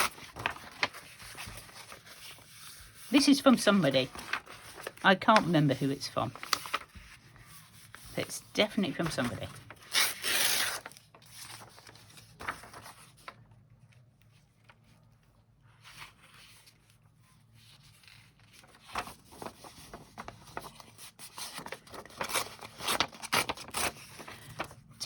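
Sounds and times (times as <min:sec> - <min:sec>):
paper rustling and scraping: 0:00.0 - 0:24.8.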